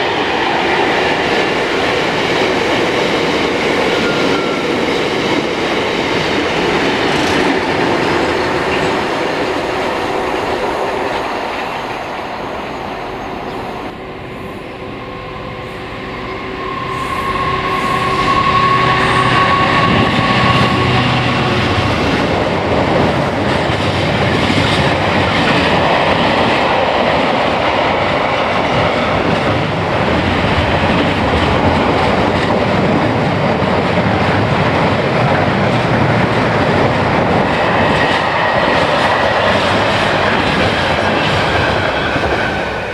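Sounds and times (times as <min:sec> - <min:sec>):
train wheels on rails: 0:00.0 - 0:42.9.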